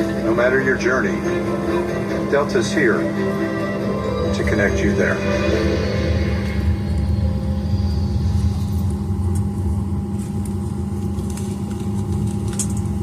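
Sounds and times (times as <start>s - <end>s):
airliner cabin ventilation hum: 0.0s - 13.0s.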